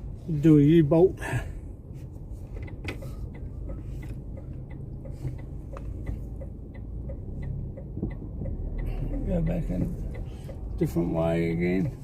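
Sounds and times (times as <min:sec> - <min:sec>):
engine and road rumble: 0:00.0 - 0:12.0
turn signal ticking: 0:00.0 - 0:12.0.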